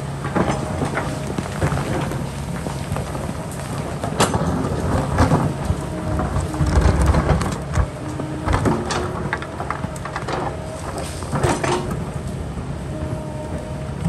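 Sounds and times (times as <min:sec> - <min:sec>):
excavator diesel engine running: 0:00.0 - 0:14.0
heavy rumble: 0:00.0 - 0:14.0.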